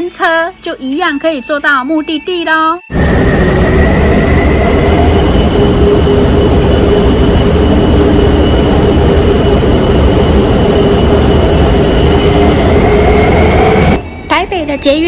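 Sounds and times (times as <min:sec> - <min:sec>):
high whine: 0:02.9 - 0:15.0
train wheels rumbling on track: 0:02.9 - 0:15.0.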